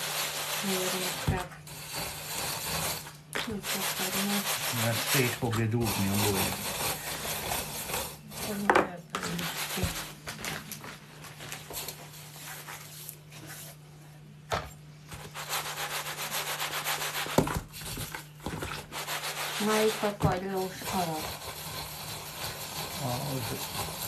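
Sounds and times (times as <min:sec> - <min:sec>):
gritty scraping through a sieve: 0:00.0 - 0:13.8, 0:15.2 - 0:24.0.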